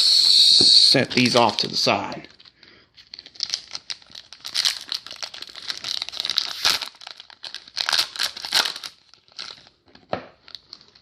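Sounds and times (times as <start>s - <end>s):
card pack wrappers crinkling: 1.0s - 11.0s.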